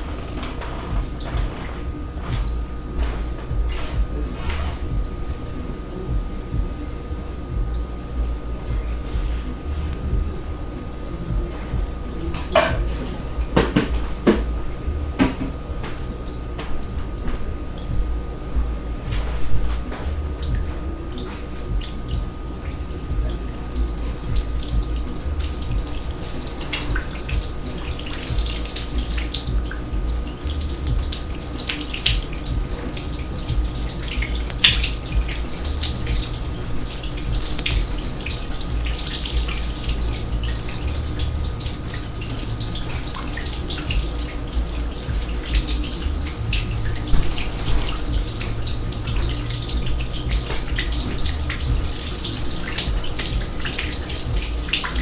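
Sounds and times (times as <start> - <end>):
steady low hum: 0.0 - 55.0
water drips and splashes: 0.0 - 55.0
water running in a sink: 0.0 - 55.0.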